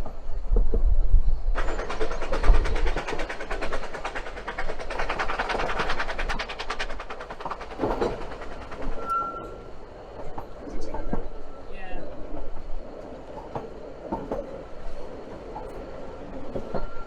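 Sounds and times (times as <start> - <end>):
train clattering on rails: 0.0 - 17.0.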